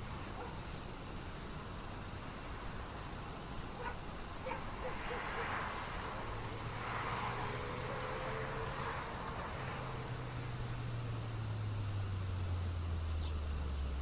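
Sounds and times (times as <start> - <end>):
low steady drone: 0.0 - 14.0.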